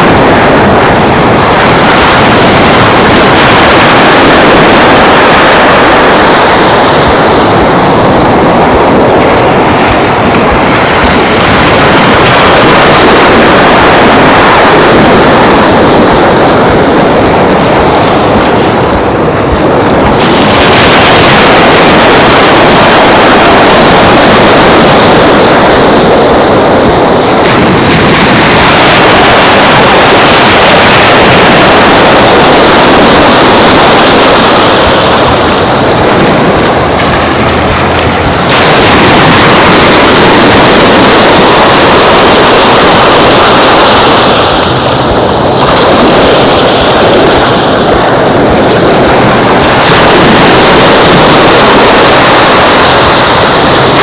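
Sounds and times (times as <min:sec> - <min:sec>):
surf washing onto beach: 0:00.0 - 0:54.0
wind on microphone: 0:00.0 - 0:54.0.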